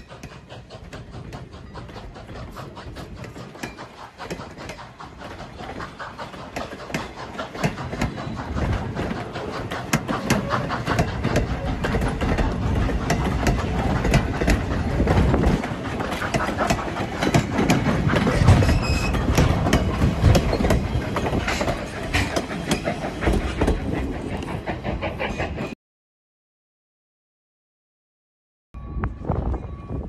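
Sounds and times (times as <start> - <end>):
low rumble of train: 0.0 - 25.8, 28.8 - 30.0
train wheels clattering over rails: 0.0 - 25.8.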